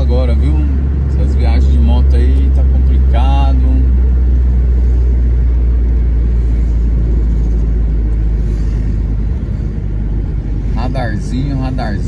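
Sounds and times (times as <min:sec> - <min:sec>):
car engine: 0:00.0 - 0:12.0
road noise: 0:00.0 - 0:12.0.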